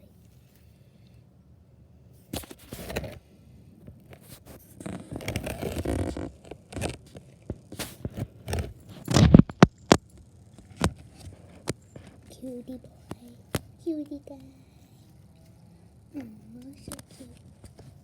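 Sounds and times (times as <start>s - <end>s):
scraping and rustling: 2.2s - 18.0s.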